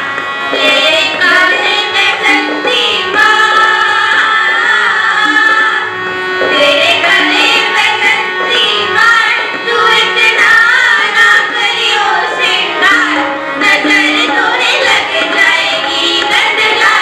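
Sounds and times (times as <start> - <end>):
harmonium holding notes: 0.0 - 17.0
girls singing devotional song: 0.2 - 17.0.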